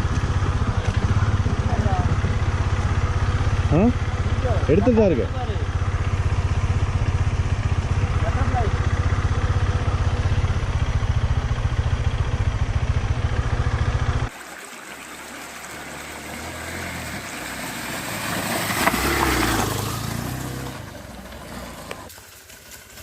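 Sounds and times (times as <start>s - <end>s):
passing motorcycle engine: 0.0s - 14.3s, 15.6s - 22.1s
motorcycle engine running: 0.0s - 14.4s, 15.8s - 23.0s.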